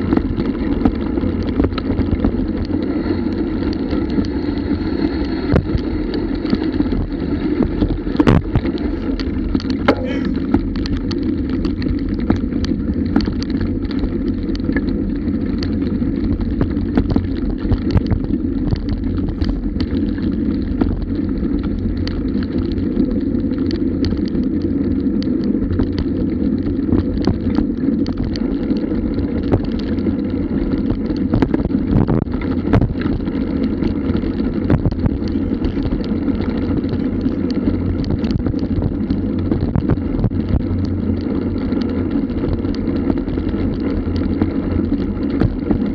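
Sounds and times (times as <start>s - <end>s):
bike rattling over bumps: 0.0s - 45.9s
tyres and wind rumbling: 0.0s - 45.9s.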